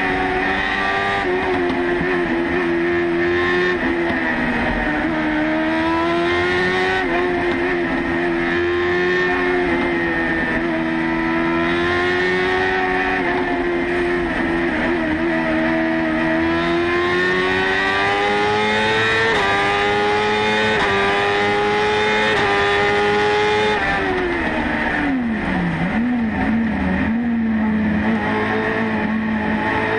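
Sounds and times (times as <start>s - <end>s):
motorcycle engine at high revs: 0.0s - 29.9s.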